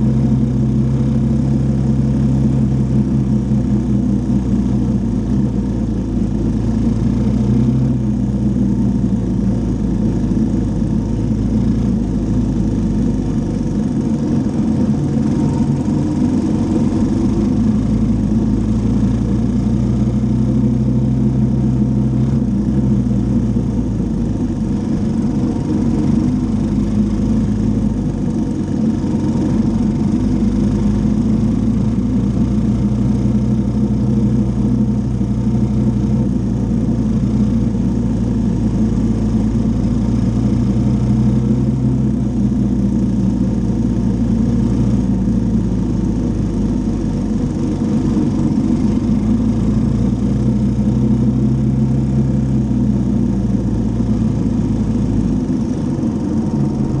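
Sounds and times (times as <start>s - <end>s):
atv engine running: 0.0s - 57.0s
tyres on gravel road: 0.0s - 57.0s.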